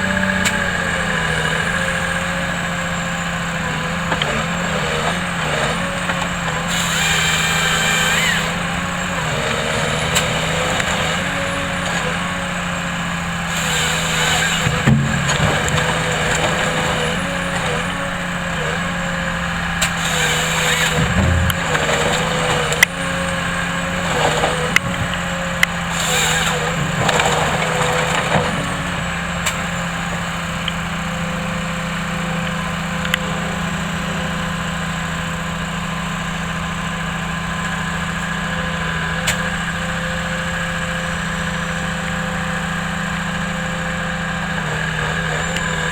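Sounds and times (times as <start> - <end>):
logging machine engine running: 0.0 - 45.9.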